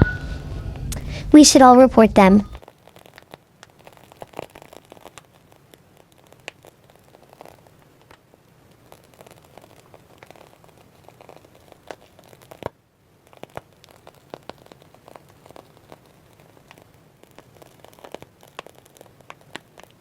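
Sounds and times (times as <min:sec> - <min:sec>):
slime crackling and popping: 0:02.6 - 0:20.0.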